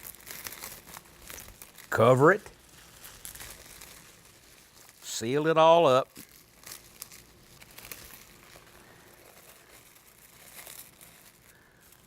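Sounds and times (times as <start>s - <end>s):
wrapping crackles: 0.0s - 12.0s
wrapping crinkling and rustling: 0.0s - 12.0s.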